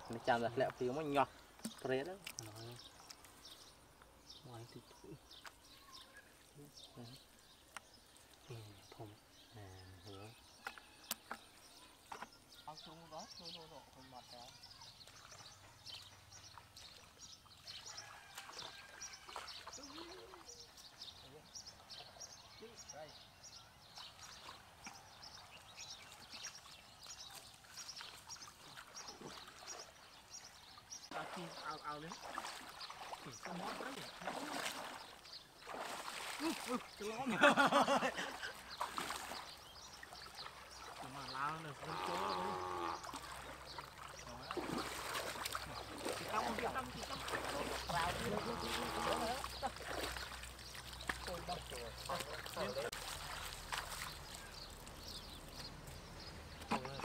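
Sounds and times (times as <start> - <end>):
water splashing and sloshing: 0.0 - 4.1, 13.9 - 22.2, 23.8 - 57.0
small birds chirping: 0.0 - 57.0.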